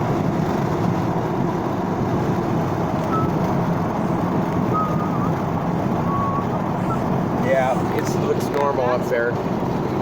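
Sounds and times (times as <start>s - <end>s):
car road and engine drone: 0.0s - 10.0s.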